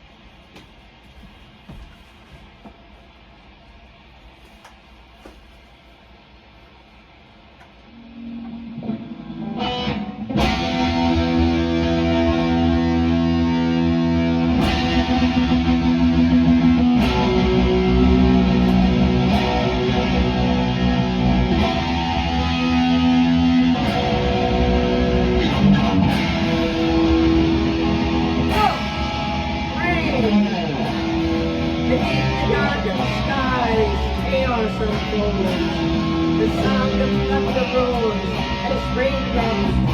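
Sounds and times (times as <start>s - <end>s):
distorted electric guitar chords: 7.8s - 39.9s.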